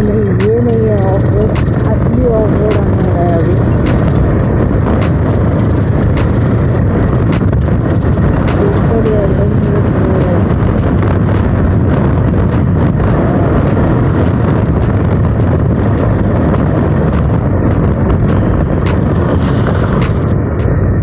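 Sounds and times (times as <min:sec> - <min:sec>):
sharp clicks: 0:00.0 - 0:20.8
motorcycle engine rumble: 0:00.0 - 0:21.0
wind rush on microphone: 0:00.0 - 0:21.0.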